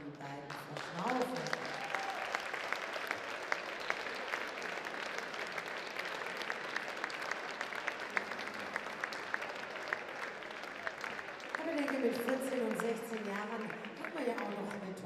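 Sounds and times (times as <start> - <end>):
audience applauding: 0.5 - 15.0.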